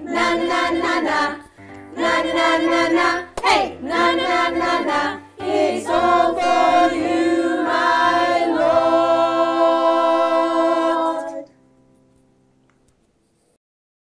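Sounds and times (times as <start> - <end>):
choir singing a long note: 0.0 - 11.6.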